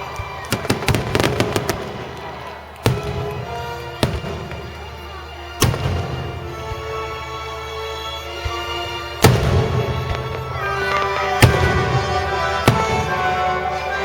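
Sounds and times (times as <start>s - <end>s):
orchestral music: 0.0s - 14.0s.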